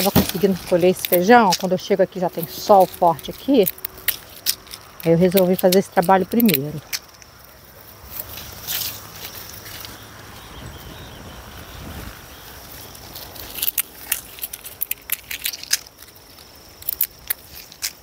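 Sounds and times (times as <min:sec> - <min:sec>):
dry pods snapping: 0:00.0 - 0:10.1, 0:12.5 - 0:18.0.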